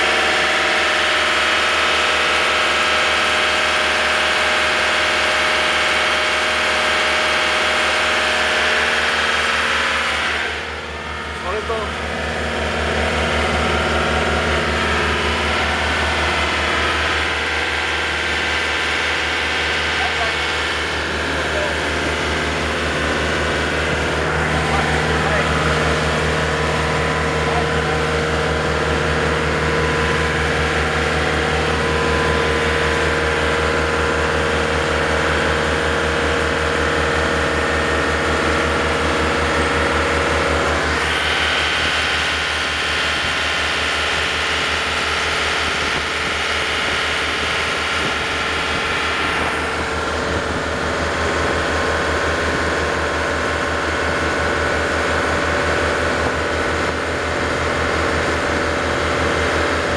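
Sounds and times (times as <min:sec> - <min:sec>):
boat diesel engine throbbing: 0:00.0 - 0:59.9.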